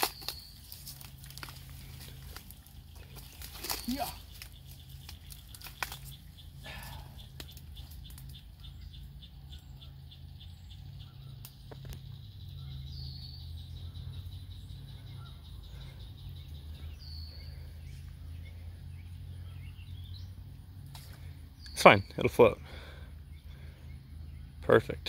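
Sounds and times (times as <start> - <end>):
birds calling: 0.0 - 25.0
low steady rumble: 0.4 - 25.0.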